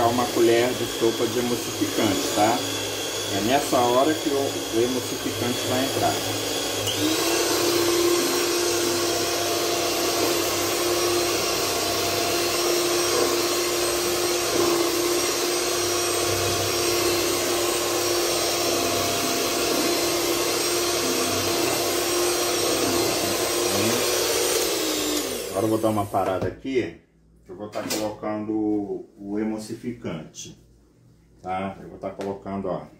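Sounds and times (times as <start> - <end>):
electric mixer humming: 0.0 - 26.4.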